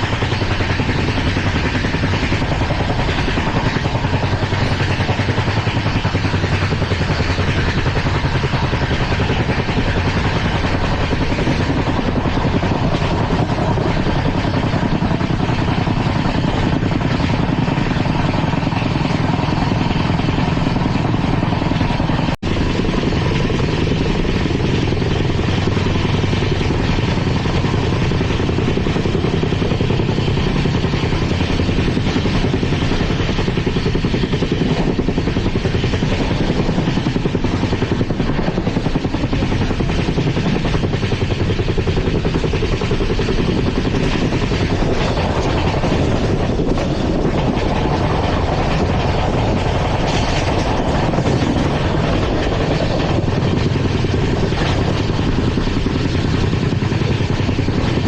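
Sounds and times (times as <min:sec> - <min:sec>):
train wheels rumbling on rails: 0:00.0 - 0:58.0
wind noise: 0:00.0 - 0:58.0.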